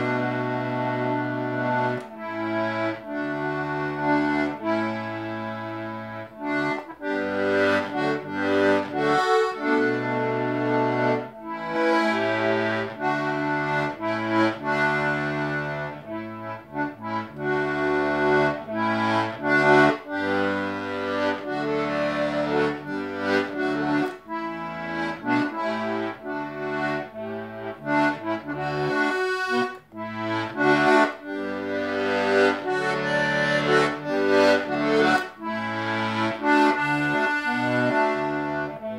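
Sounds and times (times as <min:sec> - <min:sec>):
button accordion playing a tune: 0:00.0 - 0:38.9.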